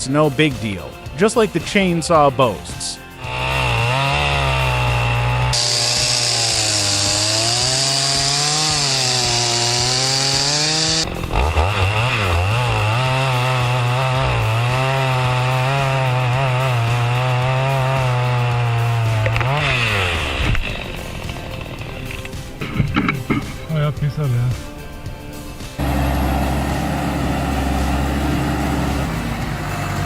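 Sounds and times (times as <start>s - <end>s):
chainsaw cutting wood: 3.1s - 23.6s, 25.8s - 30.0s.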